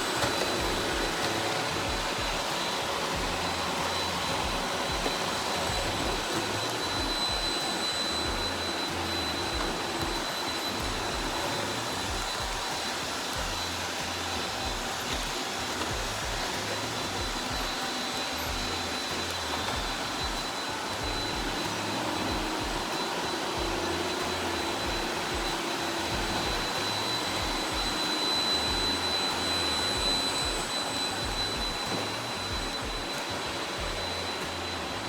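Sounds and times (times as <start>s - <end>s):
robot vacuum cleaner whirring: 0.0s - 35.0s.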